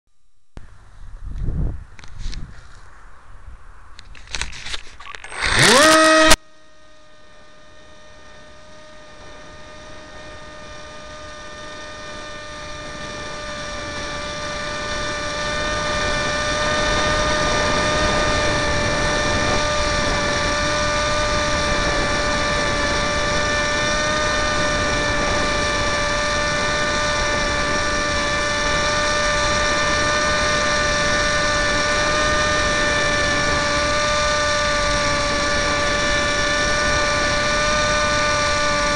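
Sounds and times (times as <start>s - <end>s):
electric propeller motor whine: 4.0s - 38.9s.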